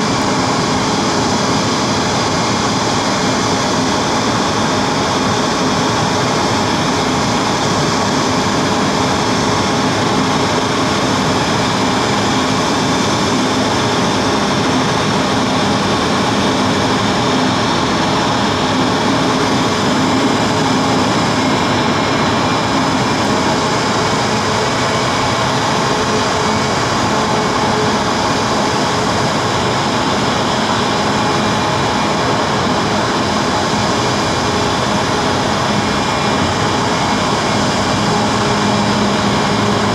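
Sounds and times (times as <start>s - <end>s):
jet engines whining: 0.0s - 39.9s
loud rushing noise: 0.0s - 39.9s.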